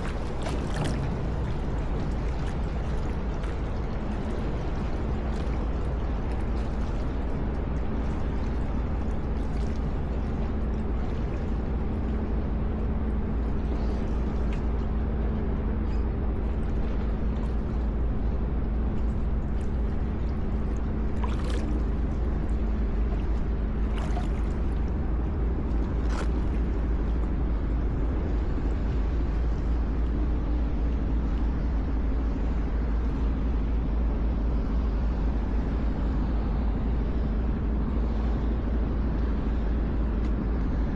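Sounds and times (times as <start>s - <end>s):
water sloshing around a kayak: 0.0s - 32.9s
steady low rumble: 0.0s - 40.9s.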